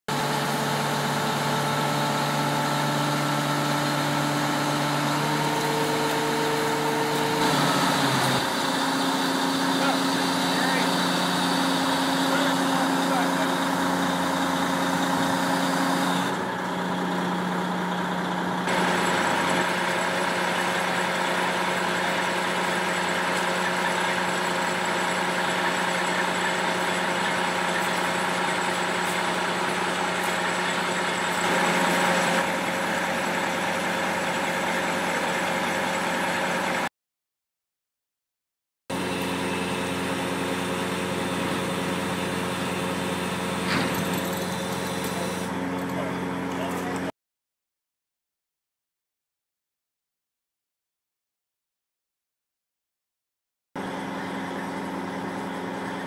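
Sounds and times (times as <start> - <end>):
diesel crane engine running: 0.1 - 36.9, 38.9 - 47.1, 53.8 - 56.0.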